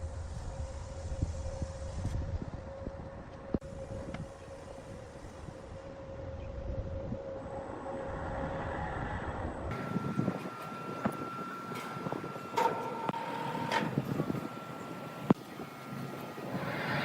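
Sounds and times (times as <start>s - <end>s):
lathe motor whine: 2.4s - 17.0s.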